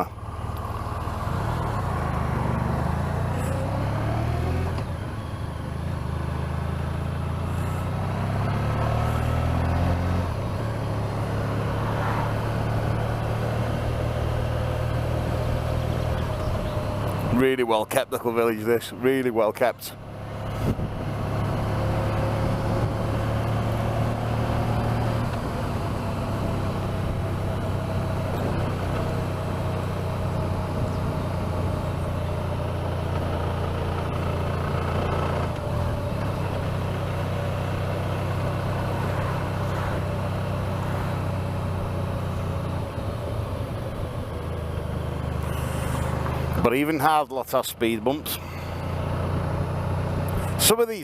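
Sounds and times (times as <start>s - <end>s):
motorcycle engine running: 0.0s - 17.6s, 19.9s - 47.0s, 48.0s - 50.7s.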